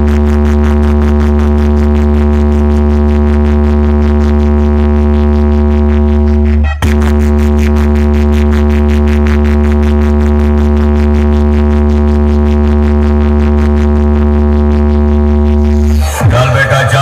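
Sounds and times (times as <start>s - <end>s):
deep bass drone: 0.0s - 17.0s.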